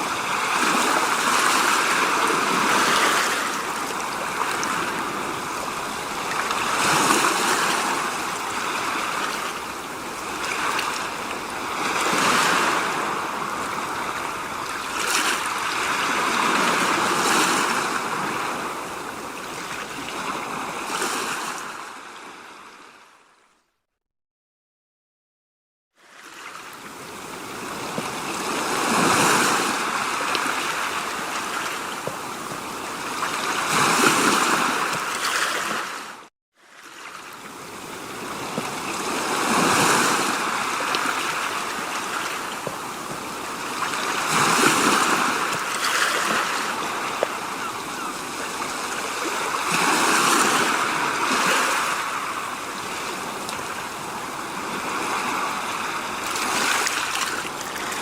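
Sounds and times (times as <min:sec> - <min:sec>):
rushing water: 0:00.0 - 0:22.0, 0:26.0 - 0:58.0.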